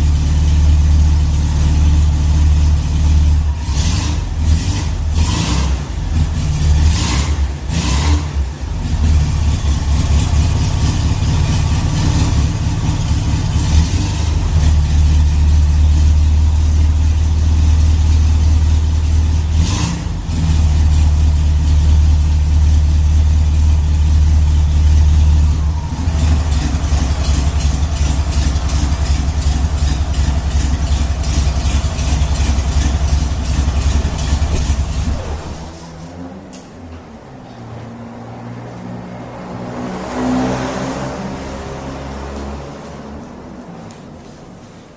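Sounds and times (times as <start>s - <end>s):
car engine running with blips: 0.0s - 37.6s.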